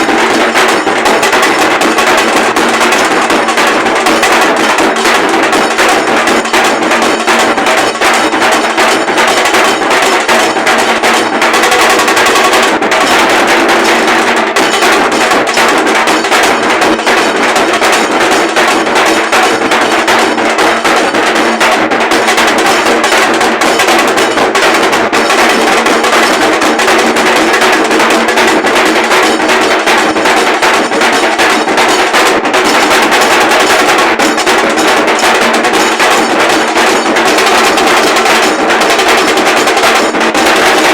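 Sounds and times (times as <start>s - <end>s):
fast continuous drumming: 0.0s - 40.9s.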